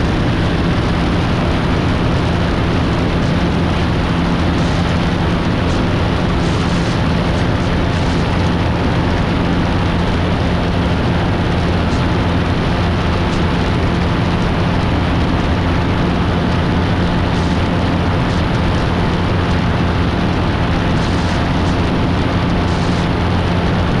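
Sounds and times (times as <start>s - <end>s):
propeller aircraft engine drone: 0.0s - 24.0s
wind rush: 0.0s - 24.0s.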